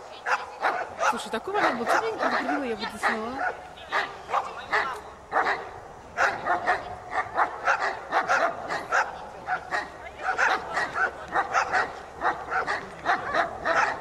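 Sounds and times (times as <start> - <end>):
dogs barking: 0.1 - 14.0.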